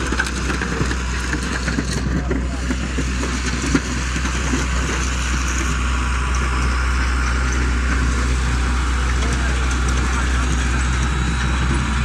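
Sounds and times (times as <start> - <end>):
diesel engine running: 0.0 - 12.0
grader blade pushing gravel: 0.0 - 12.0.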